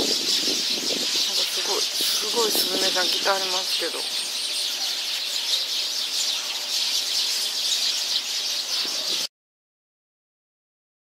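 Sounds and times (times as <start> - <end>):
sparrows chirping: 0.0 - 9.3.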